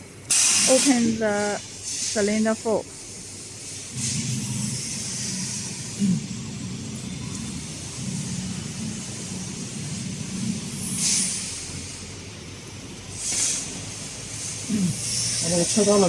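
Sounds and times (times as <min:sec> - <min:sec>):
compressed air hissing: 0:00.3 - 0:16.0
machine low hum: 0:02.6 - 0:16.0.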